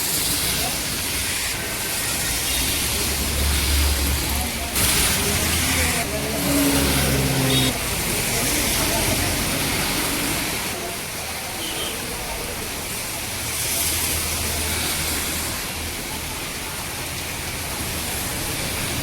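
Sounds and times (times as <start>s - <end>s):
heavy rain falling: 0.0s - 19.0s
traffic on wet road: 0.0s - 19.0s.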